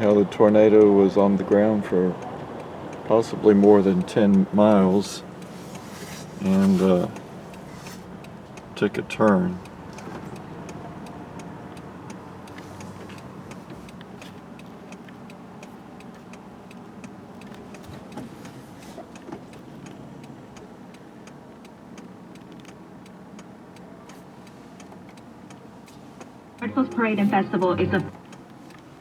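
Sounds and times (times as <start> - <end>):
fast regular ticking: 2.2 - 18.2, 19.1 - 26.7.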